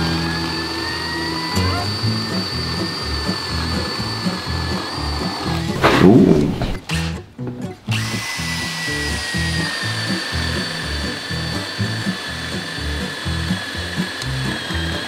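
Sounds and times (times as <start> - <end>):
cordless drill motor whine: 0.0 - 5.8, 7.9 - 15.0.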